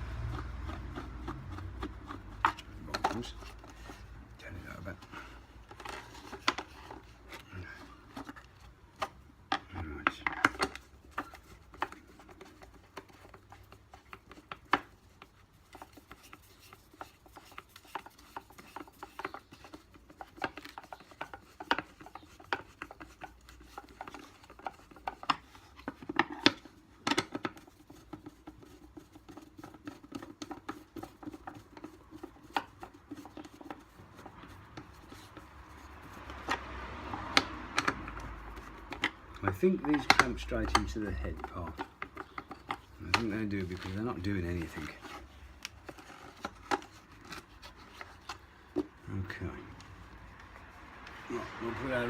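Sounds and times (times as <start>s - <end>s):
rubbing of plastic parts: 0.0s - 52.0s.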